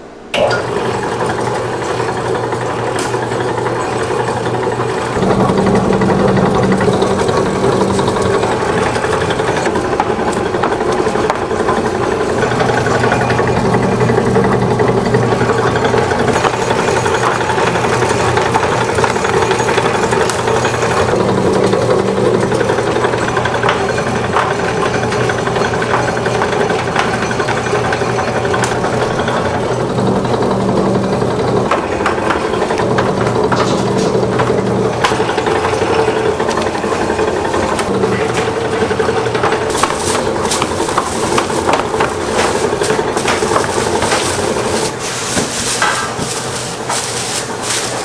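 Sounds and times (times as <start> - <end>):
machine humming: 0.0 - 48.0
knocks and clatter: 1.2 - 48.0.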